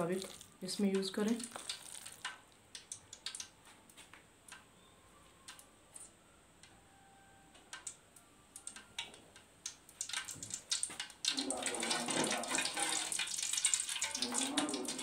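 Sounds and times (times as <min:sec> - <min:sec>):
heating ghee crackling: 0:00.0 - 0:06.2, 0:07.7 - 0:15.0.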